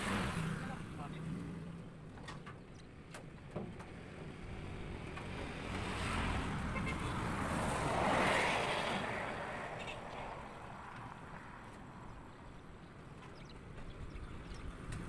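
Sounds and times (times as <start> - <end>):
road vehicle passing by: 0.0 - 2.1, 3.9 - 15.0.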